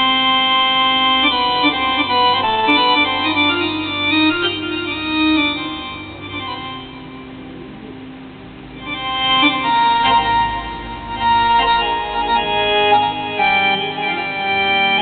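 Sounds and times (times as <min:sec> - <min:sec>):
slow keyboard dance music: 0:00.0 - 0:15.0.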